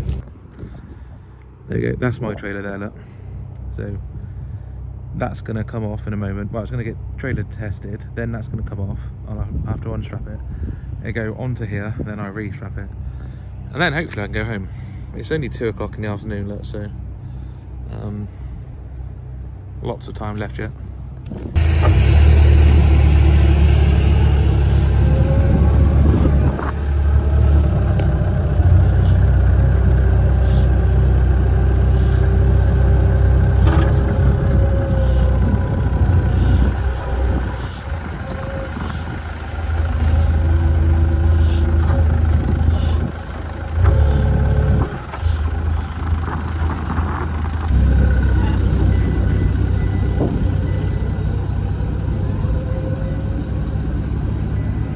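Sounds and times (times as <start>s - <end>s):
forklift engine rumbling: 0.0s - 54.9s.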